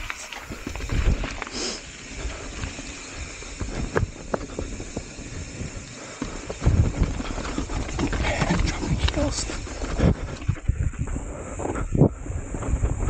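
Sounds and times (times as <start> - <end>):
bike rattling over bumps: 0.0 - 13.0
bike tyre noise on dirt: 0.0 - 13.0.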